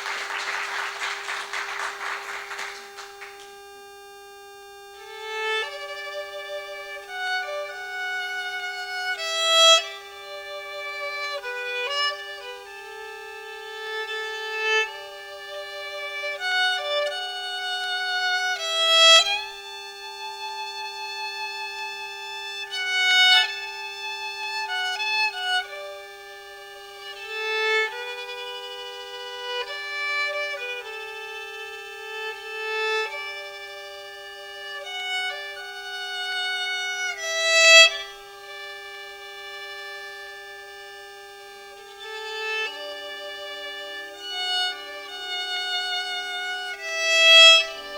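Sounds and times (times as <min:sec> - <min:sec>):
solo violin slow melody: 0:02.4 - 0:47.9.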